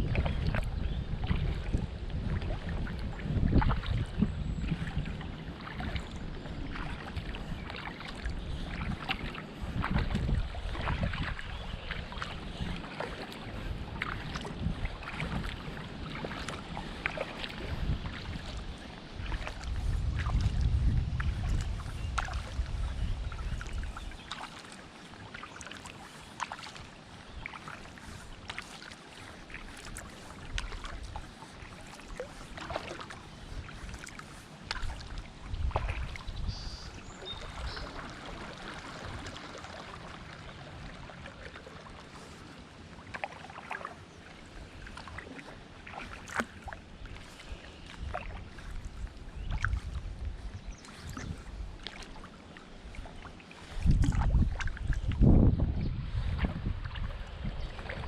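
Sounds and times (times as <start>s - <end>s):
wind rumble on microphone: 0.0s - 24.7s, 29.4s - 43.2s, 44.5s - 52.2s, 52.8s - 58.0s
small splashes and drips: 0.0s - 50.0s, 50.8s - 55.4s, 56.5s - 58.0s
kayak paddle dipping into water: 0.0s - 58.0s.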